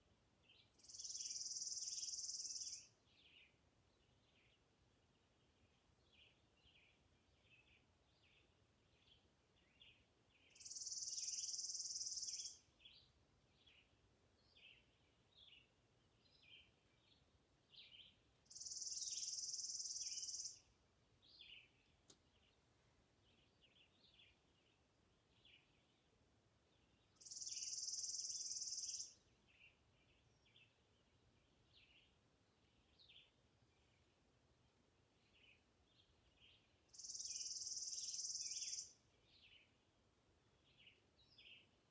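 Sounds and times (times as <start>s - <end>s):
birds chirping softly: 0.0s - 41.9s.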